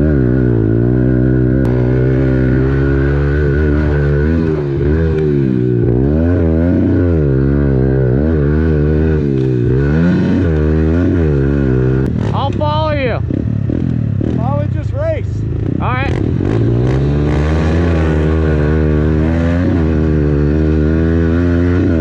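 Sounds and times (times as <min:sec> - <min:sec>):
motorbike throttle blips: 0:00.0 - 0:22.0.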